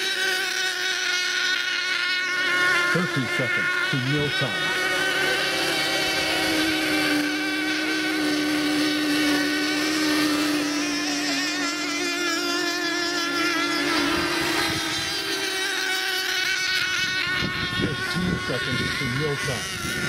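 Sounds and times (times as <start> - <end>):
high-pitched boat engine whine: 0.0 - 20.0
second engine whine: 0.0 - 20.0.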